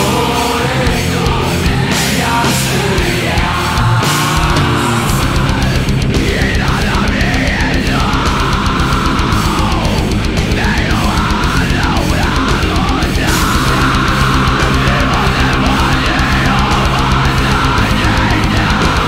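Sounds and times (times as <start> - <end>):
heavy metal song: 0.0 - 19.0.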